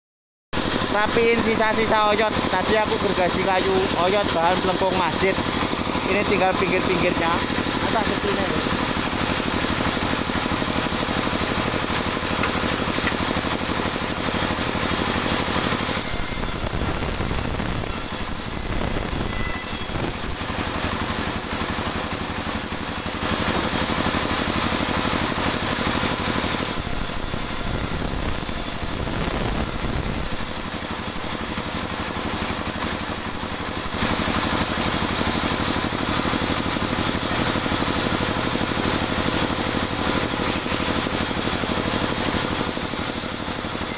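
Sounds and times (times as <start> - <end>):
band sawmill sawing wood: 0.6 - 43.9.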